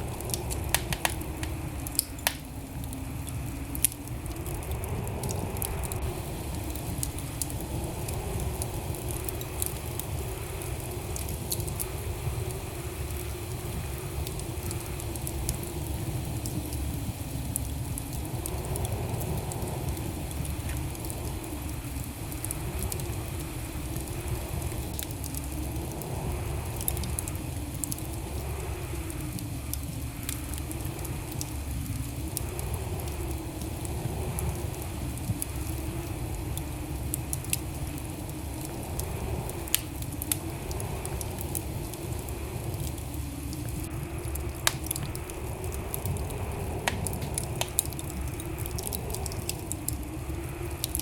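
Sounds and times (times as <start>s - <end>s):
fire crackles and pops: 0.0s - 51.0s
low rumble of flames: 0.0s - 51.0s.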